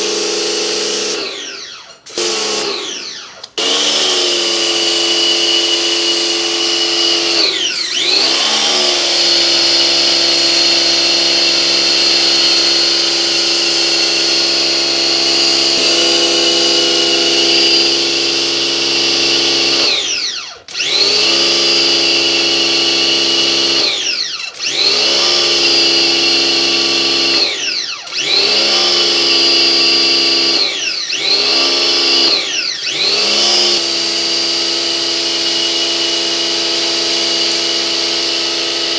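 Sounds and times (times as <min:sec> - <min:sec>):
pressure washer motor whine: 0:00.0 - 0:38.9.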